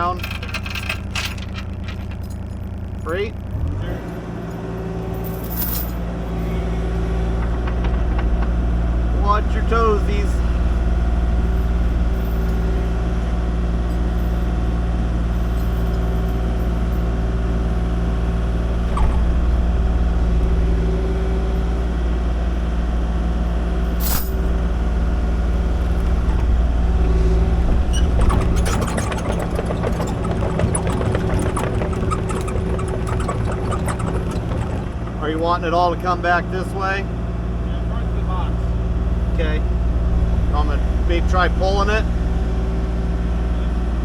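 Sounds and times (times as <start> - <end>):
metallic clanking and rattling: 0.0 - 3.0, 4.4 - 36.9
excavator diesel engine: 0.0 - 44.0.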